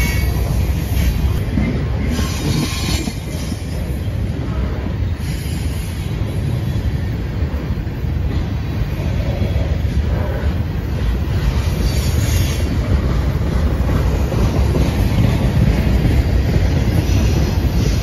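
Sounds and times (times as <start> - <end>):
freight train cars rumbling past: 0.0 - 18.0.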